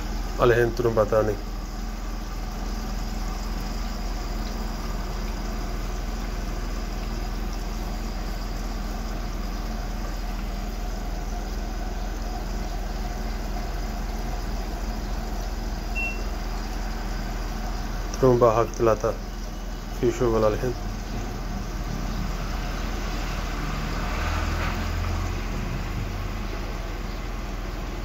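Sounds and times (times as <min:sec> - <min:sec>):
washing machine pump humming: 0:00.0 - 0:28.0.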